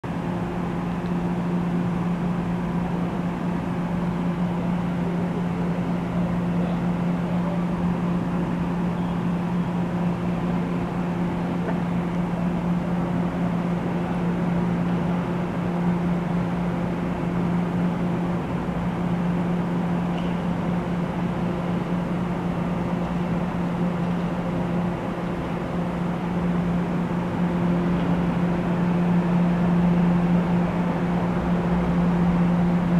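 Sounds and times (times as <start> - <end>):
low electrical hum: 0.0 - 32.9.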